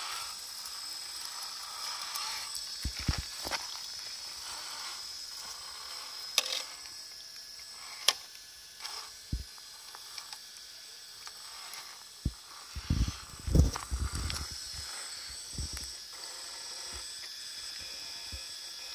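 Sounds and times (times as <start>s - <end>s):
electric motor and gearbox whine: 0.0s - 18.9s.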